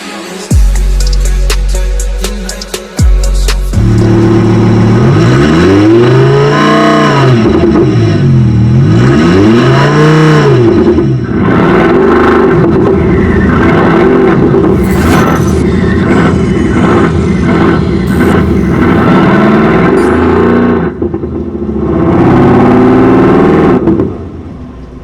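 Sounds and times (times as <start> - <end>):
synthetic engine note revving: 3.2 - 23.8.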